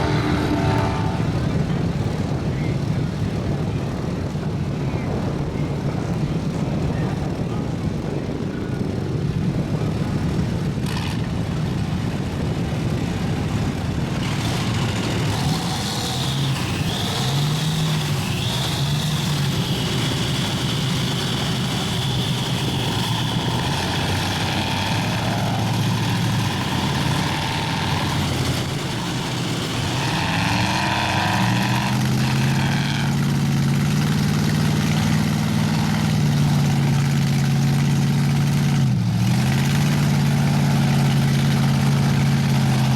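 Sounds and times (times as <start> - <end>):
truck engines revving: 0.0 - 42.9.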